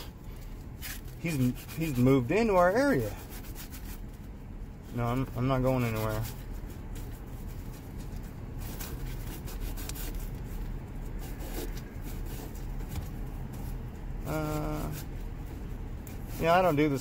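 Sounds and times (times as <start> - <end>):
sandpaper rubbing on plastic: 0.8 - 15.3, 16.1 - 17.0.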